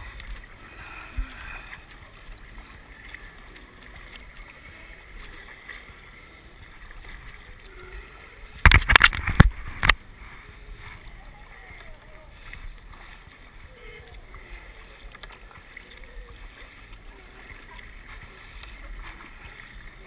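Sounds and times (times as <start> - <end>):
water sloshing around a kayak: 0.0 - 20.0.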